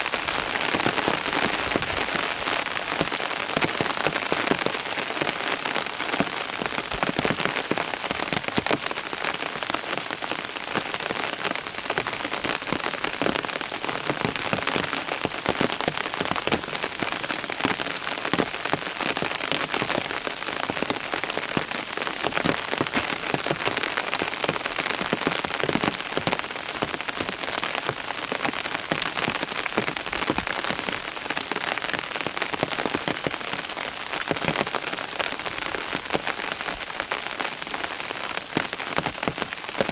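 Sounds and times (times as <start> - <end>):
rain drops hitting a surface: 0.0 - 39.9.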